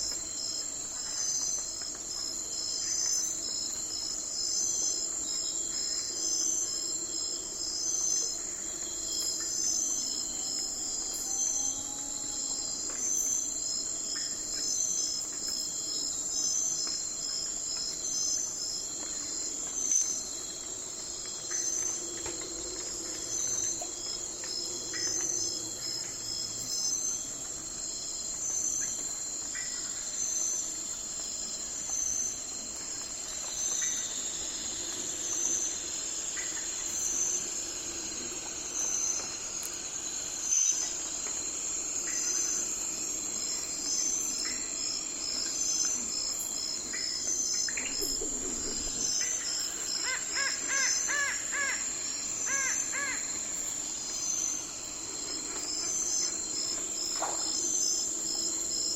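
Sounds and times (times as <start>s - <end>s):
insect chirping: 0.0s - 58.9s
insect trill: 0.0s - 58.9s.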